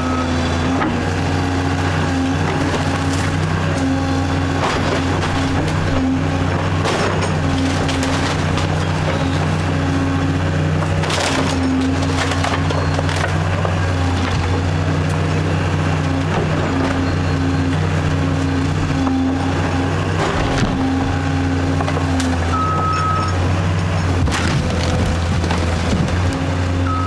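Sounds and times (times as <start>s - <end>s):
heavy machine engine running: 0.0s - 27.0s
wood cracking and splintering: 0.7s - 26.8s.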